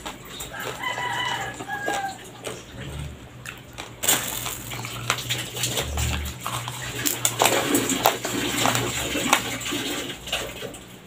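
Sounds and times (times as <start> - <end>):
chewing dry rice crunches: 0.0 - 10.7.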